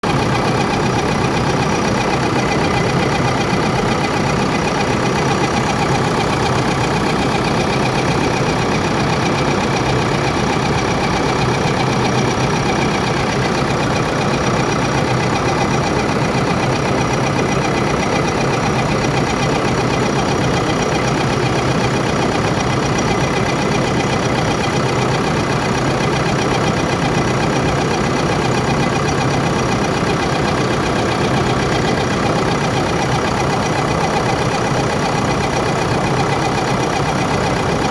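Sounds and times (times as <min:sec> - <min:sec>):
engine idling with abnormal noise: 0:00.0 - 0:37.9.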